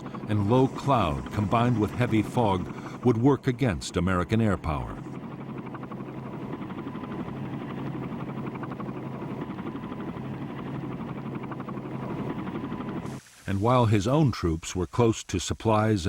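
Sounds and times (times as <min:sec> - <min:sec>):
engine drone pulsing: 0:00.0 - 0:13.2.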